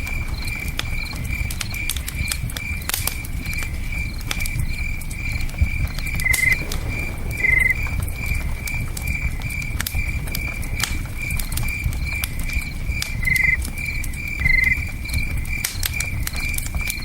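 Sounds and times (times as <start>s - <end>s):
campfire crackling and popping: 0.0s - 17.0s
crickets chirping: 0.0s - 17.0s.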